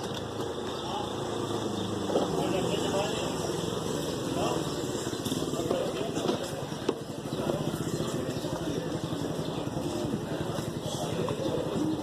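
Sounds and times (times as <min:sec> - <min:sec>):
faint voices: 0:00.0 - 0:12.0
vehicle engine running: 0:00.0 - 0:12.0.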